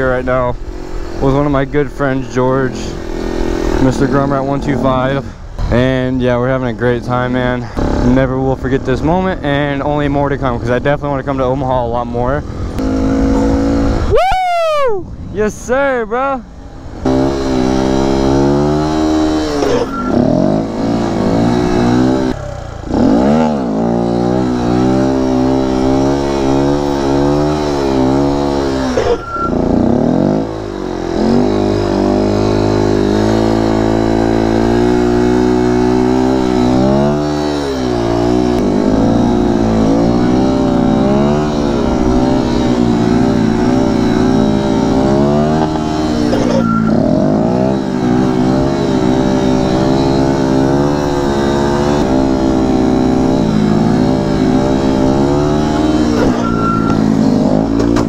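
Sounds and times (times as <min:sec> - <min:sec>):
motorcycle engine revving: 0:00.0 - 0:14.2, 0:16.4 - 0:58.0.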